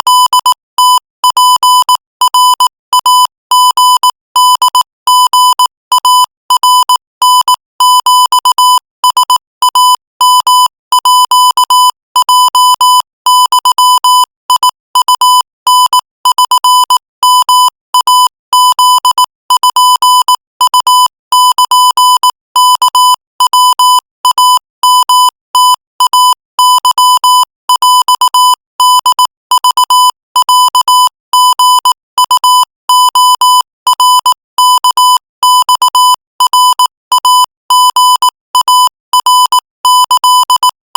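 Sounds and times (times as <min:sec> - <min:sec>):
morse code beeps: 0:00.0 - 0:40.9.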